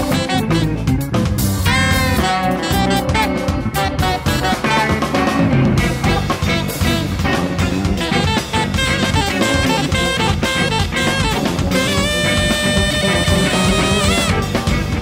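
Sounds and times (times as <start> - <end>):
jazz-funk band playing: 0.0 - 15.0.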